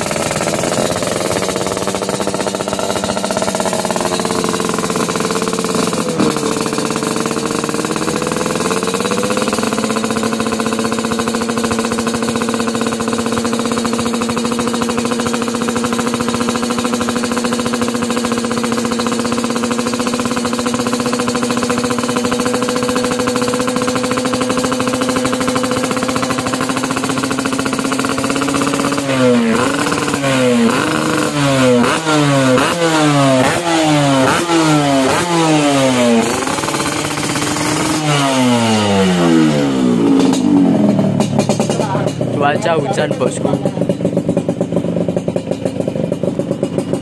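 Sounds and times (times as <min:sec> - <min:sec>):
motorcycle engine idling: 0:00.0 - 0:47.0
motorcycle throttle blips: 0:00.0 - 0:47.0.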